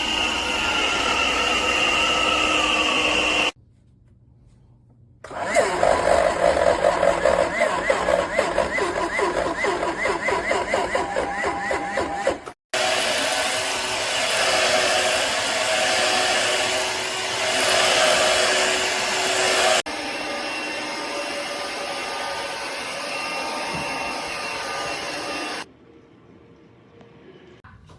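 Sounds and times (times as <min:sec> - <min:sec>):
cordless vacuum whirring: 0:00.0 - 0:03.6, 0:05.3 - 0:25.7.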